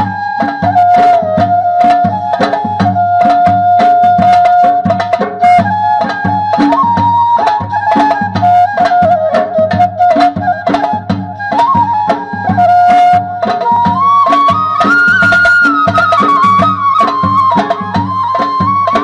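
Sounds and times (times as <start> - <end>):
hand drum beats: 0.0 - 19.0
wavering folk melody: 0.0 - 19.0.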